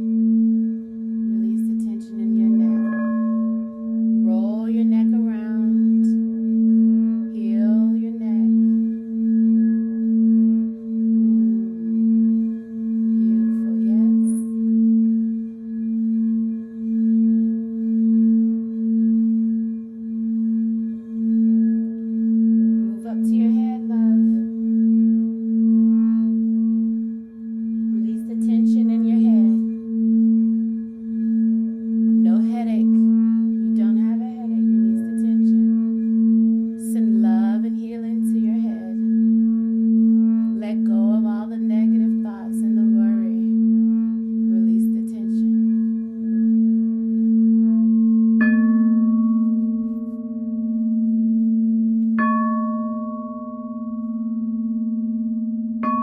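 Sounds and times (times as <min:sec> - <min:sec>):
singing bowl low tone: 0:00.0 - 0:56.0.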